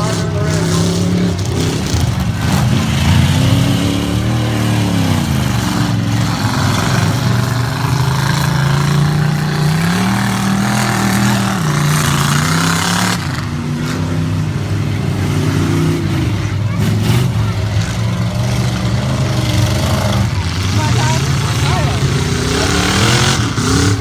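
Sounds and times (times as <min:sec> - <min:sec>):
racing truck engines revving: 0:00.0 - 0:24.0.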